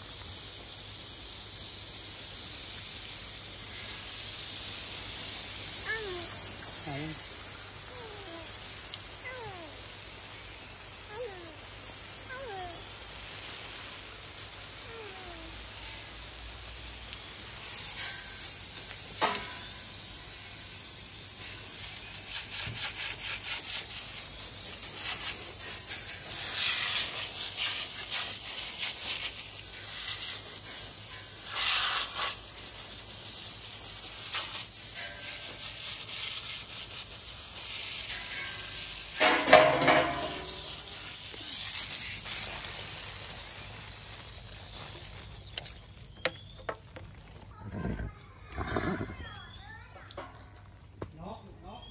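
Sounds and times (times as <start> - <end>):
garden hose spraying water: 0.0 - 51.9.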